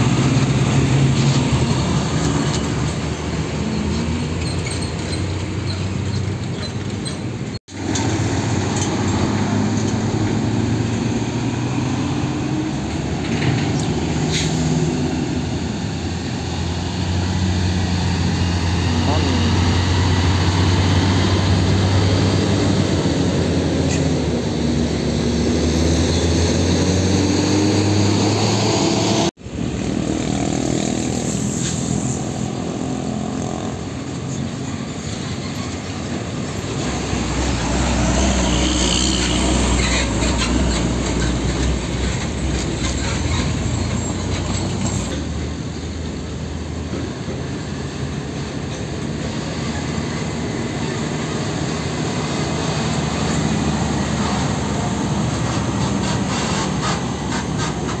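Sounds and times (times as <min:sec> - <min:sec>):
passing traffic: 0:00.0 - 0:58.0
truck engine hum: 0:00.0 - 0:58.0.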